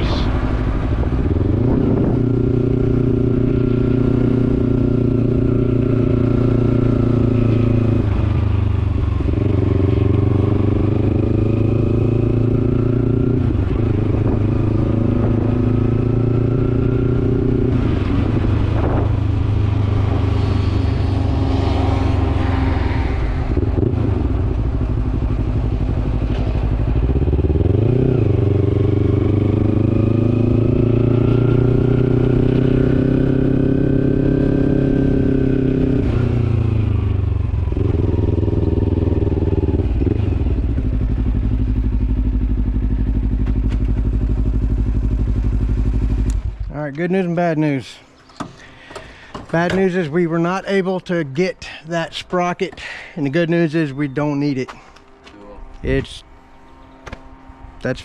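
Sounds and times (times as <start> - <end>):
motorcycle engine revving: 0.0 - 48.7.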